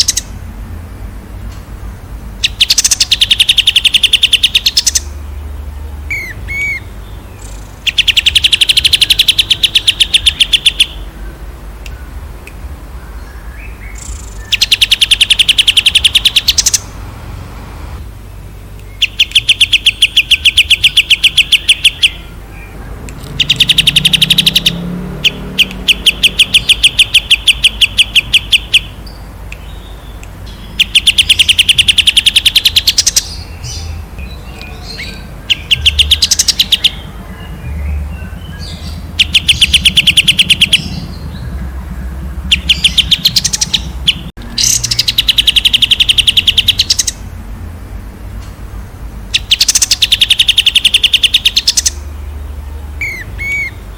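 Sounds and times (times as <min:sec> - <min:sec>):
songbird rapid high chirps: 0:00.0 - 0:00.4, 0:02.2 - 0:17.0, 0:18.0 - 0:47.4, 0:48.3 - 0:53.9.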